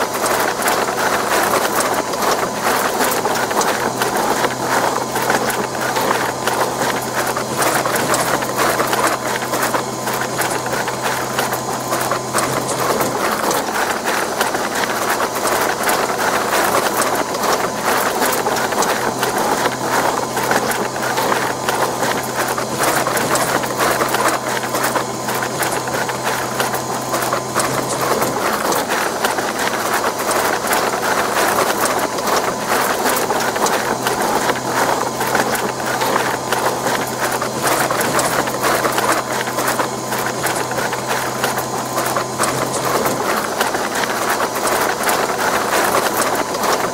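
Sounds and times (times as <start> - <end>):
dough churning and rattling: 0.0 - 46.9
mixer motor humming: 0.0 - 46.9.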